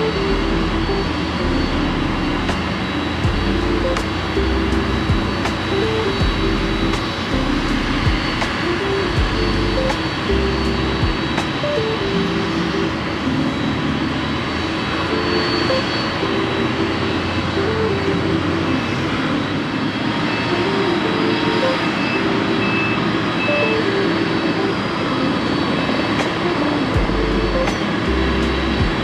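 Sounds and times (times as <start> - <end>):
background music melody: 0.0 - 29.0
jet engines rushing: 0.0 - 29.0.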